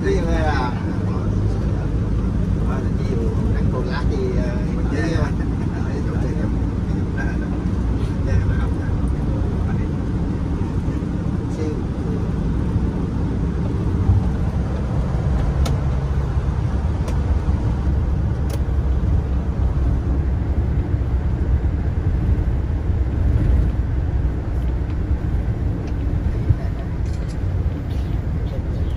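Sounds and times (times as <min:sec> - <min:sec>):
engine and tyre rumble in van: 0:00.0 - 0:28.9.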